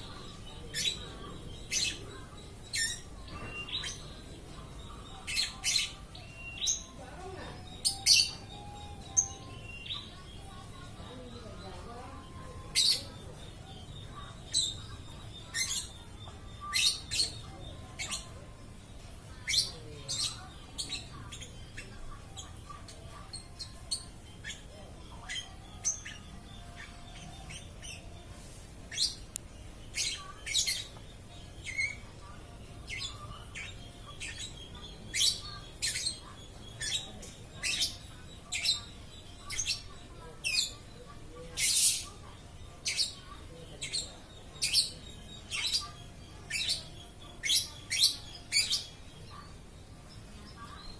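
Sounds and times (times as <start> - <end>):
lovebird chirping: 0.0 - 50.9.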